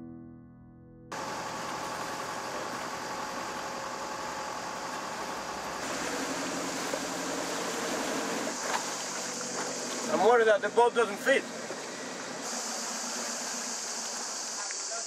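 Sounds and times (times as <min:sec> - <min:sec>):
boat engine running: 0:01.1 - 0:15.0
wind and water hiss: 0:01.1 - 0:15.0.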